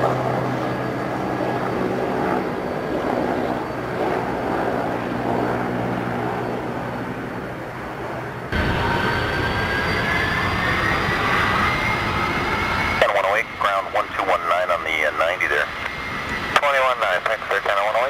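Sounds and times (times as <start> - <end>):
airliner engines droning: 0.0 - 18.0.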